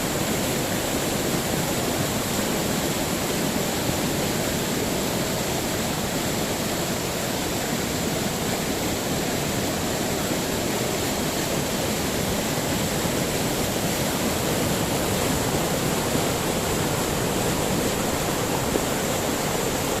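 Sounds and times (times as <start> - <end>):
water rushing over falls: 0.0 - 20.0.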